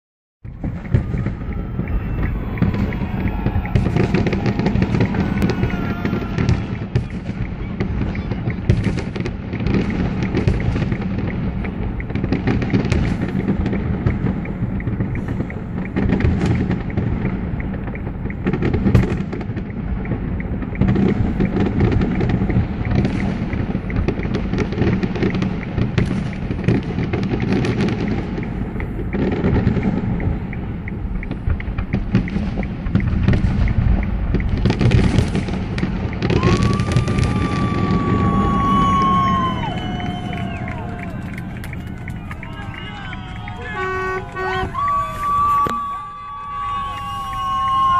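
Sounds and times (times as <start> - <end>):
fireworks booming: 0.4 - 47.9.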